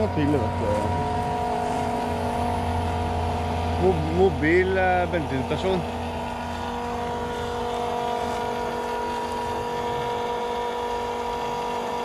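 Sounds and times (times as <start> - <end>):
electric pump whining: 0.0 - 12.0.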